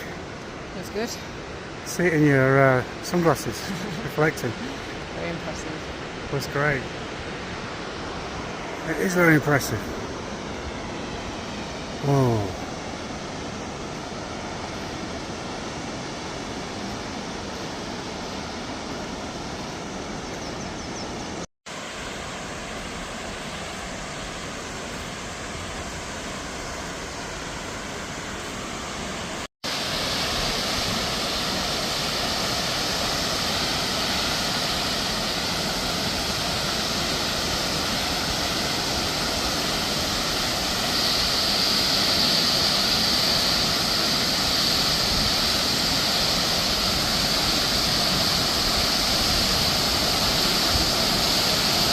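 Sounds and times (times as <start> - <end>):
waterfall rushing: 0.0 - 20.4, 21.4 - 51.9.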